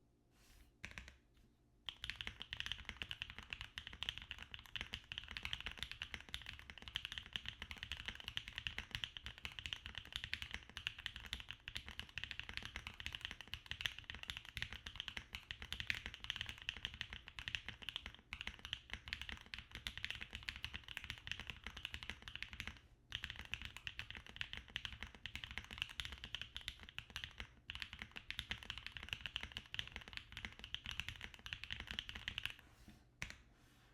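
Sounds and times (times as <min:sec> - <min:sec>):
mechanical keyboard typing: 0:01.9 - 0:32.5.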